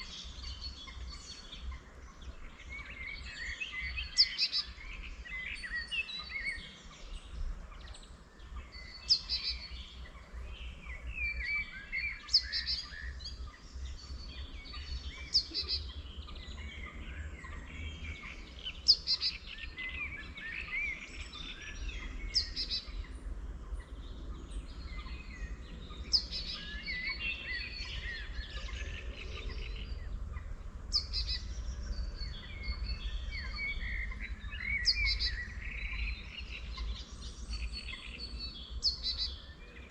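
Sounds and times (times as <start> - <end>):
birds chirping chorus: 0.0 - 39.9
loud bird song phrase: 0.0 - 39.9.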